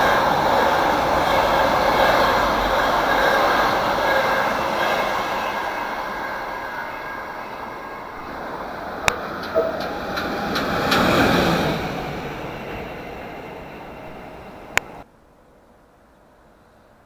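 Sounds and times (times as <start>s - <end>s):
locomotive rumbling past: 0.0s - 15.0s
passing train: 0.0s - 15.1s.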